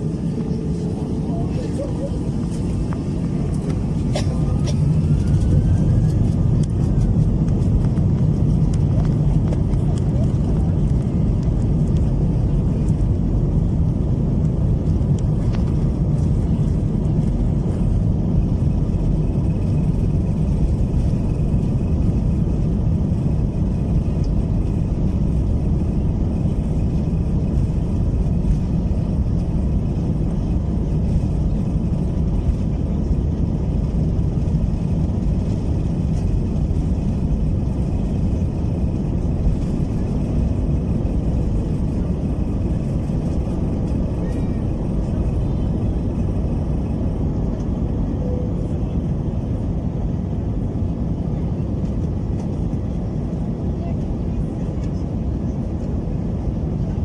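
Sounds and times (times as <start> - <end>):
jet engine rumble and airflow: 0.0 - 57.0.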